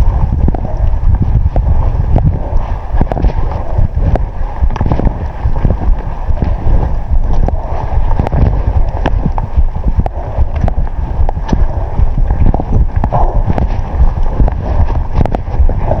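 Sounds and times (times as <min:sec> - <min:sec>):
wind buffeting microphone: 0:00.0 - 0:16.0
sharp clicks and knocks: 0:03.0 - 0:16.0.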